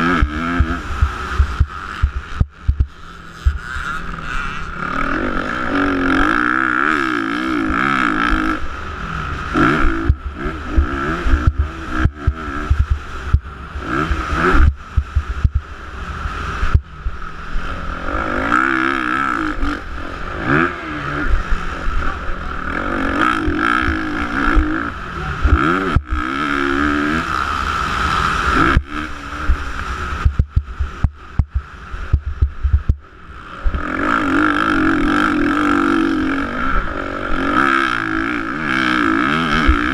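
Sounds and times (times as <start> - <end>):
heavy low rumble: 0.0 - 15.8, 16.6 - 39.9
motocross bike engines revving: 0.0 - 39.9.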